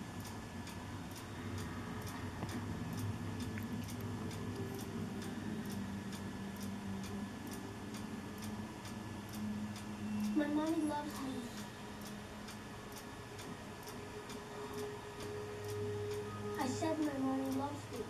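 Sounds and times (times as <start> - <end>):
light ticking: 0.0 - 18.0
low steady hum: 0.0 - 18.0.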